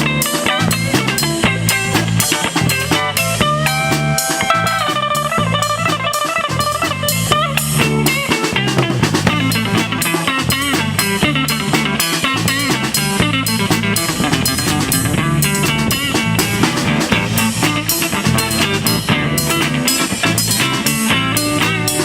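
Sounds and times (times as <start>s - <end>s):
bass guitar: 0.0s - 22.0s
drum kit: 0.0s - 22.0s
lead guitar bending notes: 0.0s - 22.0s.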